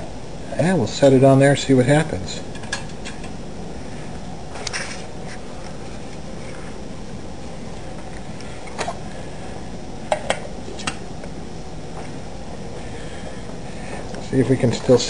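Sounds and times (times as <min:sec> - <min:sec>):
steady low background noise: 0:00.0 - 0:15.0.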